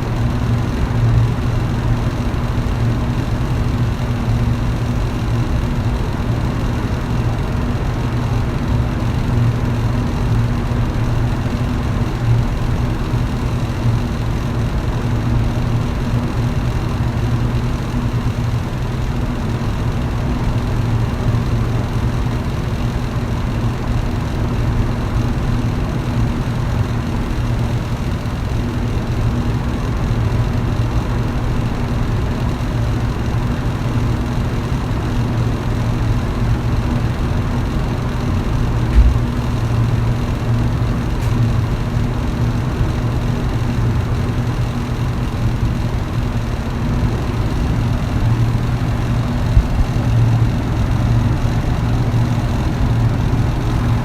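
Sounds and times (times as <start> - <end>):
electric fan humming: 0.0 - 54.0.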